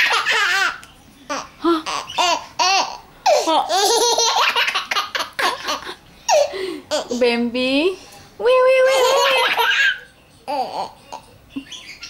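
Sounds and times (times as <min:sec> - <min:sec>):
baby laughing: 0:00.0 - 0:07.2, 0:08.9 - 0:12.0.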